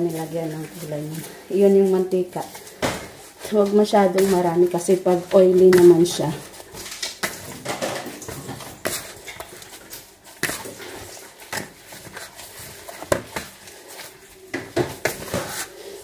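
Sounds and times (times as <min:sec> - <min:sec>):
plastic gloves crinkling: 0:00.0 - 0:16.0
squishing dough: 0:00.0 - 0:16.0.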